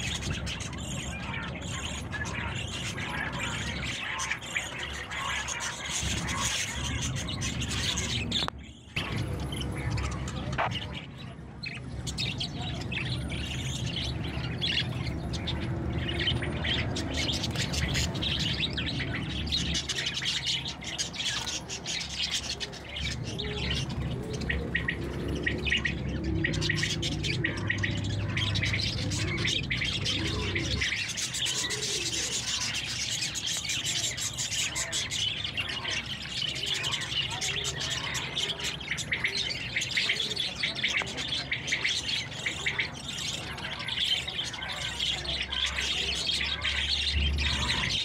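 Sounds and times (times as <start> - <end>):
budgerigars chirping and warbling: 0.0 - 48.0.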